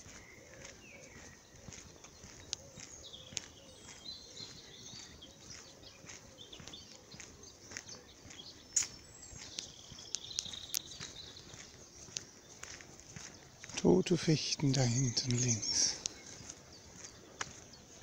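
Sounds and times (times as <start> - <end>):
footsteps on asphalt: 0.0 - 18.0
small songbirds chirping: 0.0 - 18.0.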